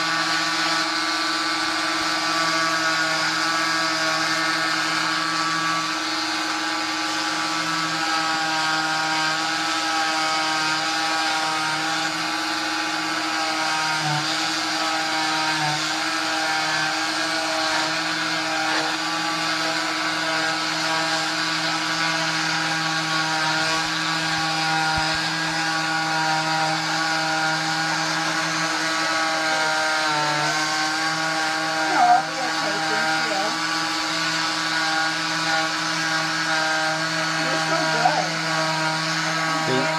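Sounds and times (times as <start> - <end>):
cast saw whining: 0.0 - 39.9.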